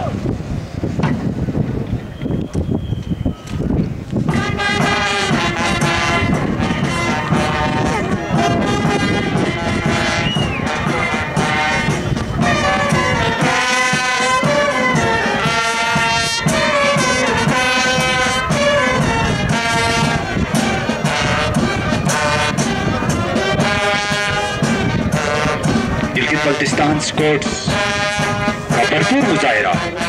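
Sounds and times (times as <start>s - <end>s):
brass band playing: 4.2s - 30.0s
regular drumbeat: 4.2s - 30.0s.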